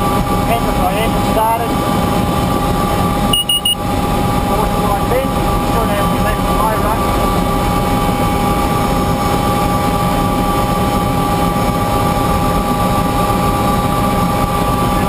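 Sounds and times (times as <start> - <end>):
helicopter engine and rotor rumble: 0.0 - 15.0
turbine high whine: 0.0 - 15.0.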